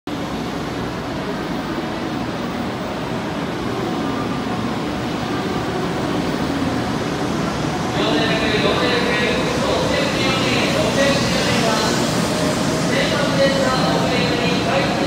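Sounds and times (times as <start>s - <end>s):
train motors and wheels rumbling: 0.1s - 15.0s.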